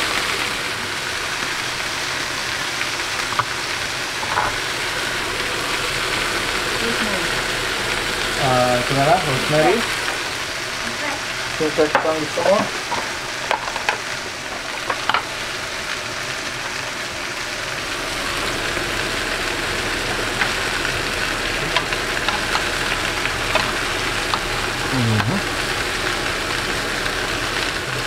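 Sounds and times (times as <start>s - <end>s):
steaks sizzling in pans: 0.0s - 28.0s.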